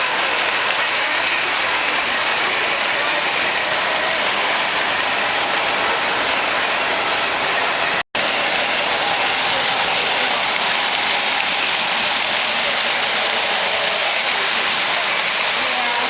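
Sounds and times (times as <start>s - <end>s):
model trains clattering on track: 0.0s - 16.0s.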